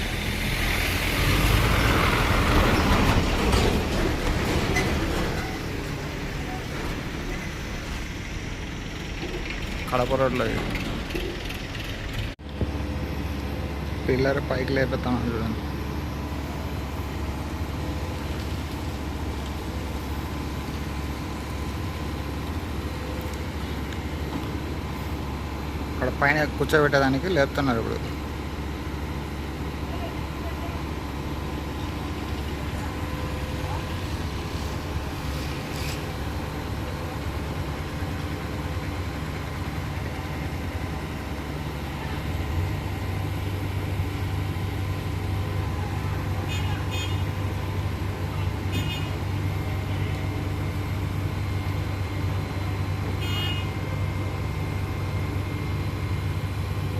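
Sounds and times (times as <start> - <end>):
diesel crane engine running: 0.0 - 56.9.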